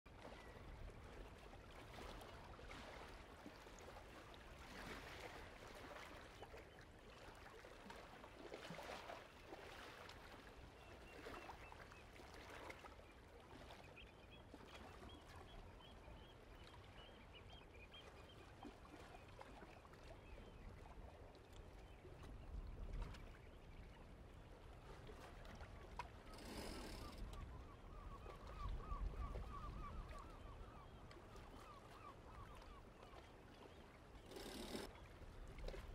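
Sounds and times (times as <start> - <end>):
water gently lapping: 0.1 - 35.9.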